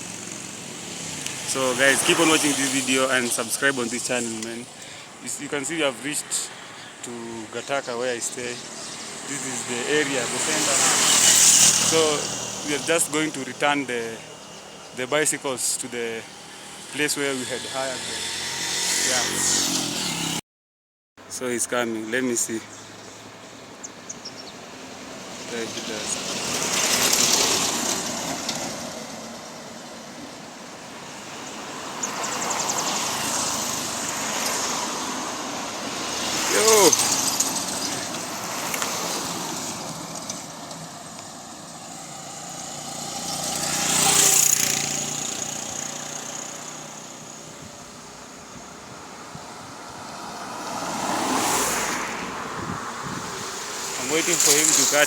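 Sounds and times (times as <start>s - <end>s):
road vehicles passing: 0.0s - 20.4s, 21.2s - 55.0s.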